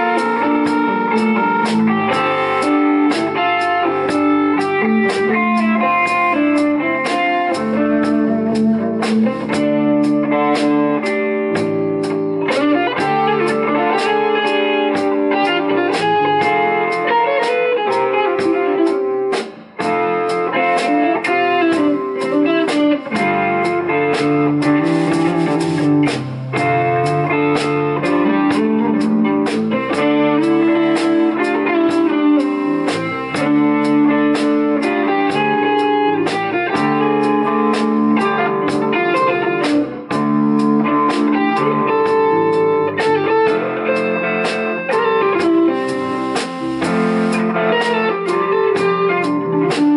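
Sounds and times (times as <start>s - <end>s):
drum kit steady beat: 0.0s - 49.9s
electric bass: 0.0s - 49.9s
electric guitars: 0.0s - 49.9s.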